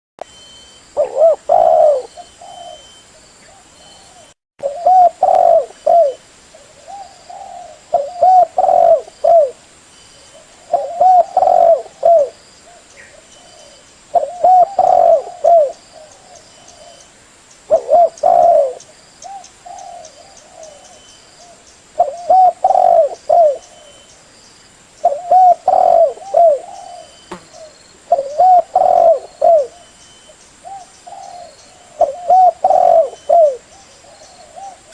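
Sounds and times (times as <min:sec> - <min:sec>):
dove cooing: 0:01.0 - 0:09.6, 0:10.3 - 0:17.0, 0:17.7 - 0:24.0, 0:25.0 - 0:30.0, 0:30.6 - 0:34.9.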